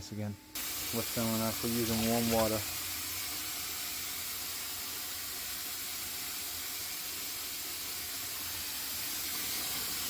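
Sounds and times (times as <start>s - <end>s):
water running into a tub: 0.6s - 10.0s.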